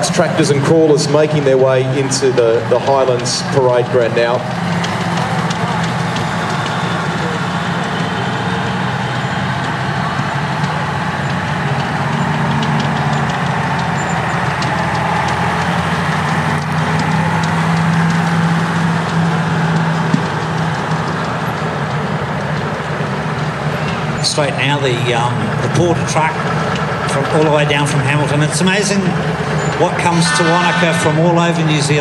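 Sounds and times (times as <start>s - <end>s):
trucks driving past: 0.0s - 32.0s.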